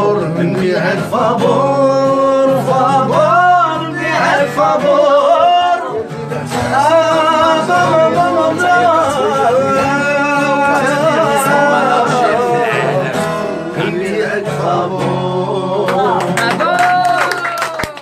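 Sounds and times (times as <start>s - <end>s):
instrumental accompaniment: 0.0s - 16.6s.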